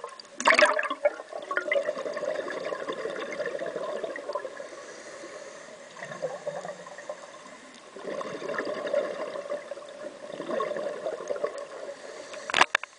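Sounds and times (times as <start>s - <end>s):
underwater bubbling: 0.0s - 12.9s.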